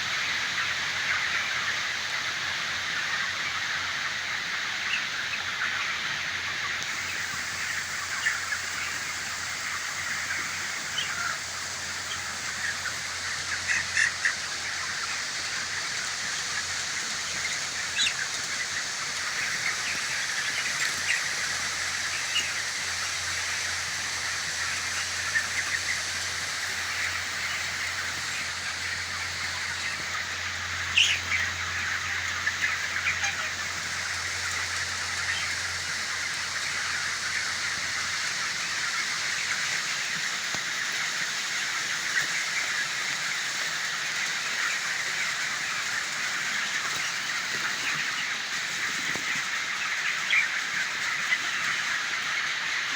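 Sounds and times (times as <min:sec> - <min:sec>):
chickens cheeping: 0:00.0 - 0:52.9.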